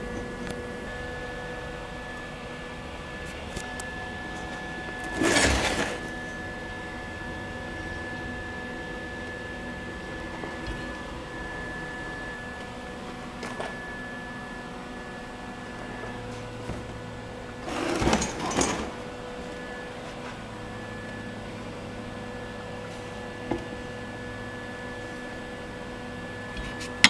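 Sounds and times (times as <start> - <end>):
workshop hum: 0.0 - 27.0.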